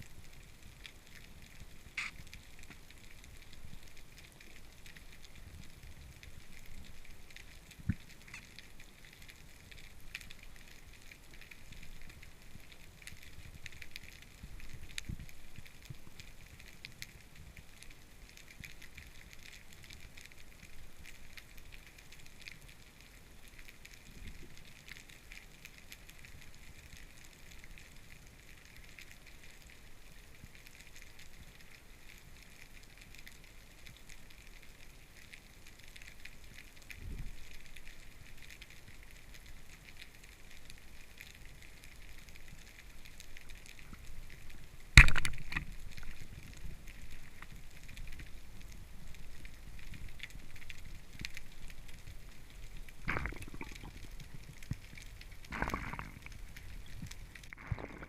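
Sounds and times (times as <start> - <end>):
underwater crackling and clicking: 0.0 - 58.0.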